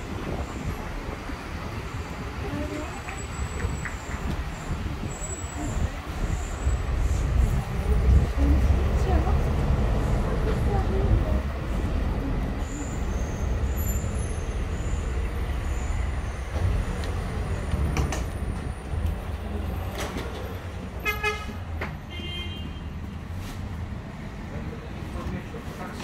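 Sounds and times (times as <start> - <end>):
city ambience rumble: 0.0 - 26.0.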